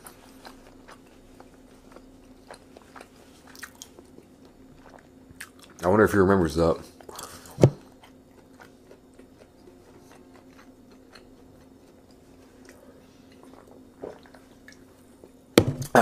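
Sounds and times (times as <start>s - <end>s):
chewing and mouth noises: 0.0s - 5.8s, 7.0s - 15.4s
faint room hum: 0.0s - 16.0s.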